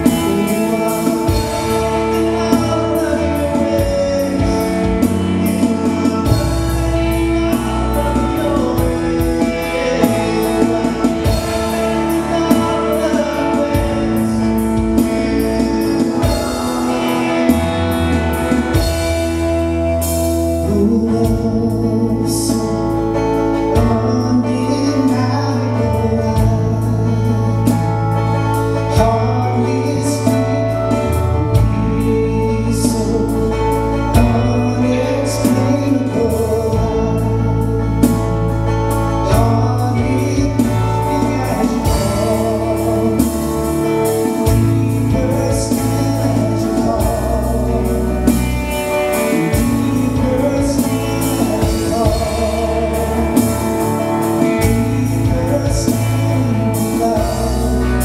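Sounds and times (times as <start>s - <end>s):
men singing: 0.0s - 28.0s, 28.6s - 38.4s, 39.2s - 58.0s
acoustic guitars strumming: 0.0s - 58.0s
bass guitar: 0.0s - 58.0s
drum kit: 0.0s - 58.0s
electric guitar: 0.0s - 58.0s.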